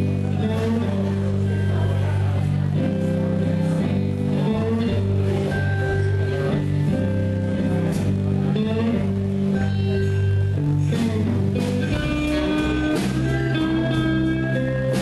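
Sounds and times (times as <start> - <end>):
blues band playing: 0.0 - 15.0
electric guitar: 0.0 - 15.0.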